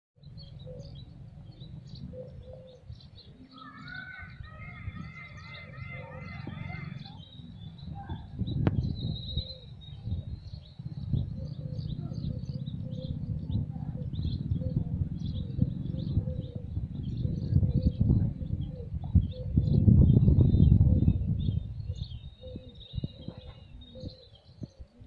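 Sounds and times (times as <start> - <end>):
steady low rumble: 0.2 - 3.4, 6.4 - 23.8
small birds chirping: 0.2 - 25.0.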